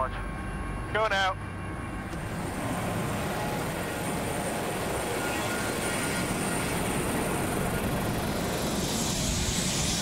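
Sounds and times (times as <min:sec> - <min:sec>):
helicopter engines and rotor: 0:00.0 - 0:10.0.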